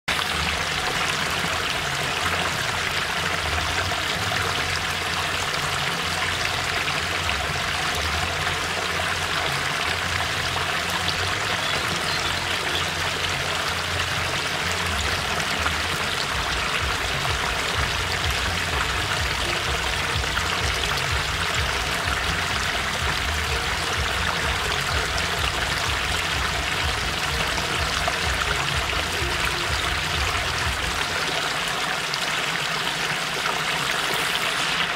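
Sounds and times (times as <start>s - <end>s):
small waterfall splashing over rocks: 0.1s - 34.9s.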